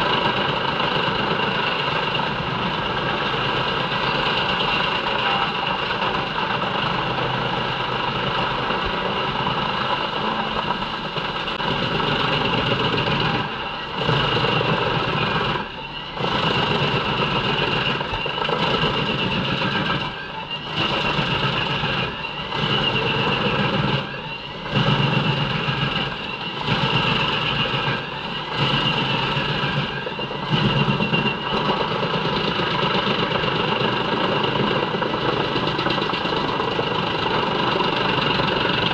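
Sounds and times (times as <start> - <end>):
steady high whine: 0.0 - 38.9.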